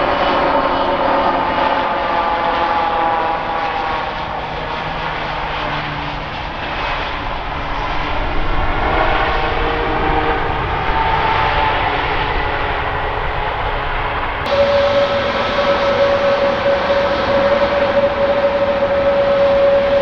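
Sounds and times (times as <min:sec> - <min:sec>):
jet engines roaring and whining: 0:00.0 - 0:20.0.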